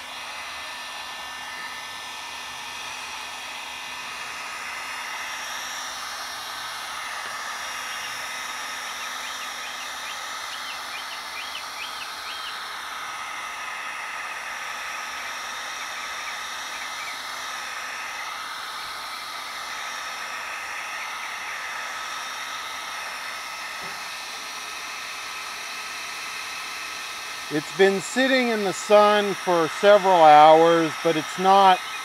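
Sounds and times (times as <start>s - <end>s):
heat gun blowing air: 0.0s - 32.0s.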